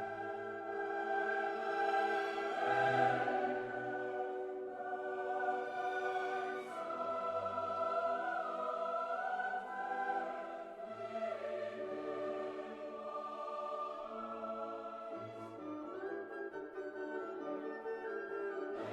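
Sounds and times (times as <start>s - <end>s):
choir-like voices: 0.0s - 18.9s.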